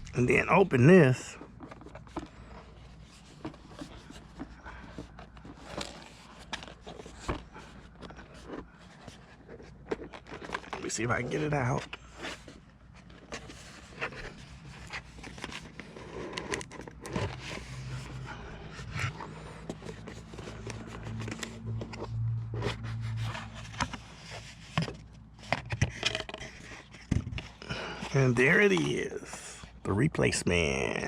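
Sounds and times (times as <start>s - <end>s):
phone packaging scraping and rustling: 0.0s - 29.8s.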